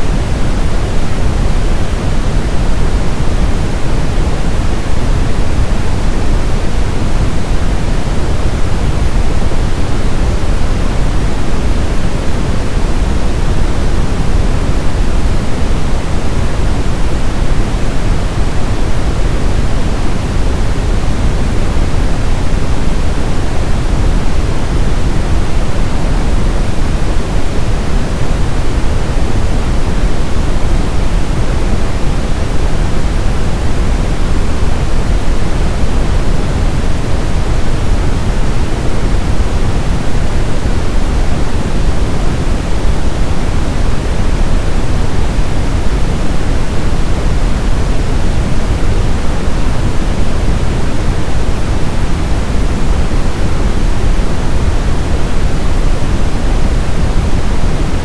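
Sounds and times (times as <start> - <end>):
brown noise rumble: 0.0 - 58.0.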